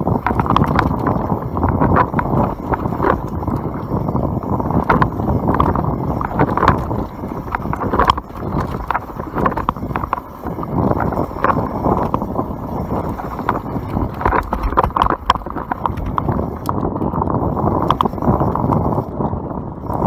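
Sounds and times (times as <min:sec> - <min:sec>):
bike knocking and rattling: 0:00.0 - 0:20.0
bike tyres rumbling over dirt: 0:00.0 - 0:20.0.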